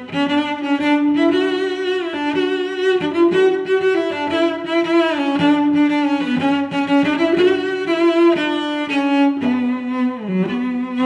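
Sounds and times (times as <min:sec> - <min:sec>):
bowed strings music: 0:00.0 - 0:11.0.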